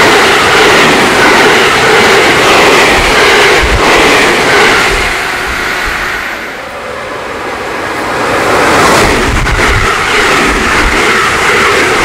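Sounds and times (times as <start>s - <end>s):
another train rushing past: 0.0s - 12.0s
electric train passing at speed: 0.0s - 12.0s.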